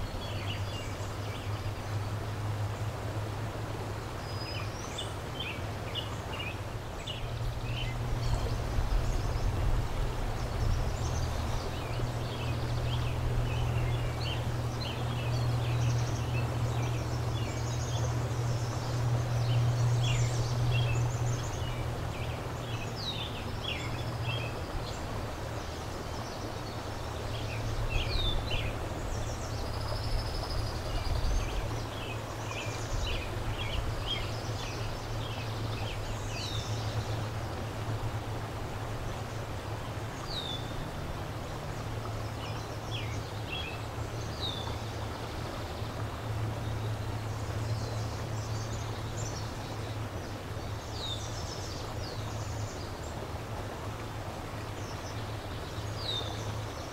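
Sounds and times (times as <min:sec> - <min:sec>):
river water rushing: 0:00.0 - 0:56.9
songbirds chirping: 0:00.0 - 0:56.9.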